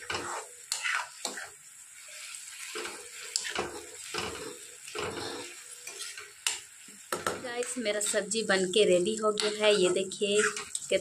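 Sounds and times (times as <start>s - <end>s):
spoon scraping a pan: 0.0s - 7.4s, 9.4s - 11.0s
faint sizzle: 0.0s - 11.0s.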